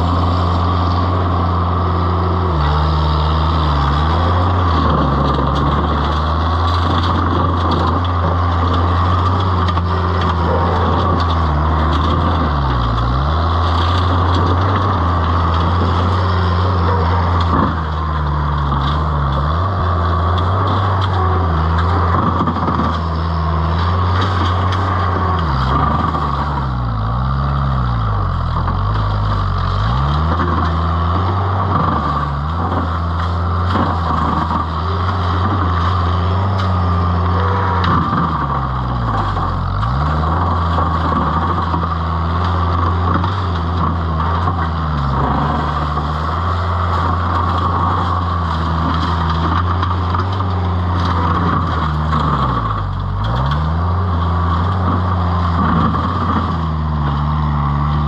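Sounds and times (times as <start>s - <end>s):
engine running at high throttle: 0.0s - 58.0s.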